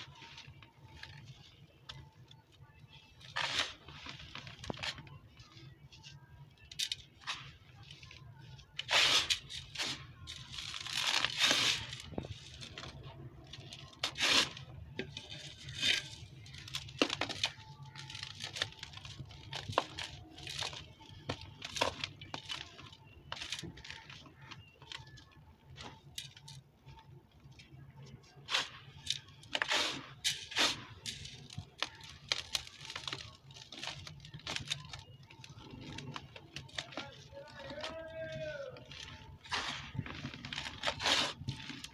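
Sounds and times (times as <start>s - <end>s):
dry dirt crumbling and crunching: 0.0s - 41.9s.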